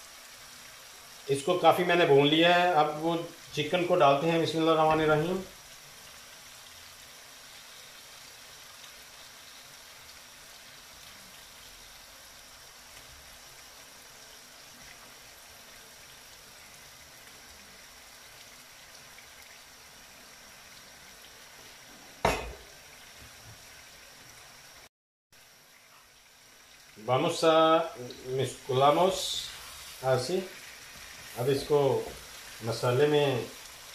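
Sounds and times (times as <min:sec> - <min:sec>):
faint sizzle of frying: 0:00.0 - 0:33.9.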